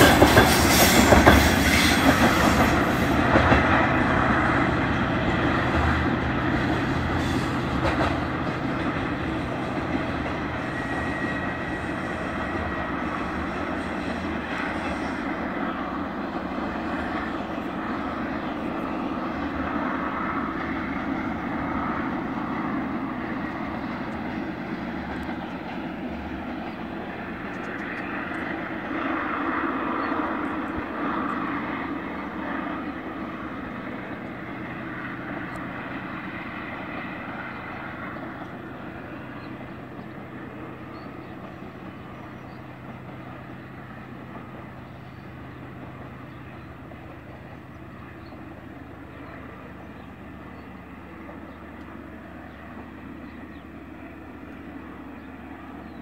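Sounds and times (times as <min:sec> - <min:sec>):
diesel locomotive engines droning: 0:00.0 - 0:56.0.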